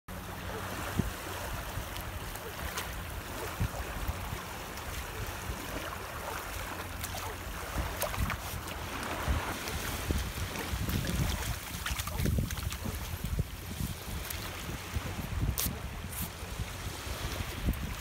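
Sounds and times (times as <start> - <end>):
surf washing on sandy shore: 0.1 - 18.0
wind rumbling on microphone: 0.1 - 18.0.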